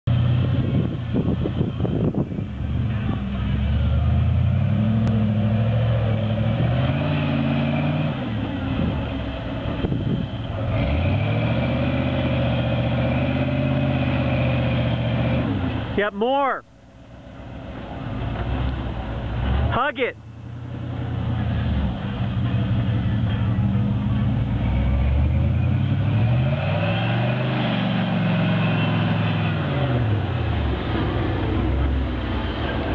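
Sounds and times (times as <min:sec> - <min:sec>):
engine revving under load: 0:00.1 - 0:16.0, 0:20.7 - 0:32.9.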